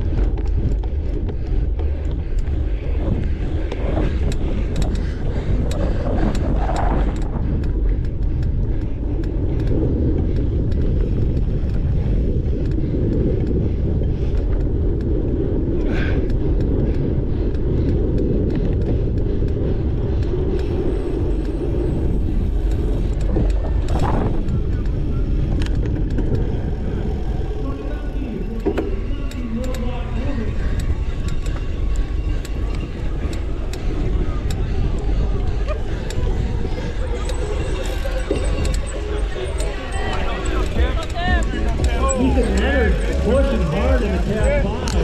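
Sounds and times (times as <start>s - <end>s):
bike rattling over dirt: 0.0s - 45.0s
wind rumbling on microphone: 0.0s - 45.0s.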